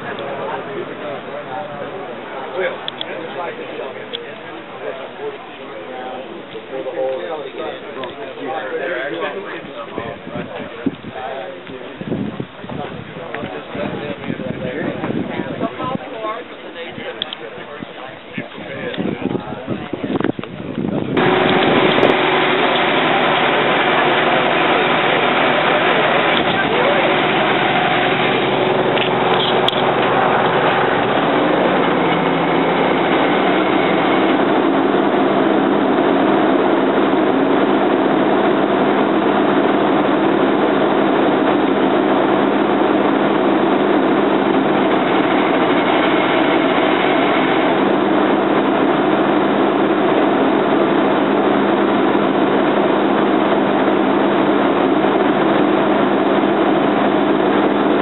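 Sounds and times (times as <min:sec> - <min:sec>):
diesel engine running: 0:00.0 - 0:12.6, 0:19.0 - 0:58.0
constant low hum: 0:00.0 - 0:58.0.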